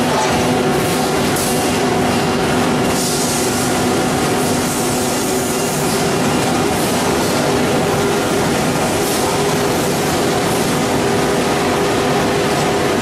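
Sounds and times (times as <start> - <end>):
conveyor machinery running: 0.0 - 13.0.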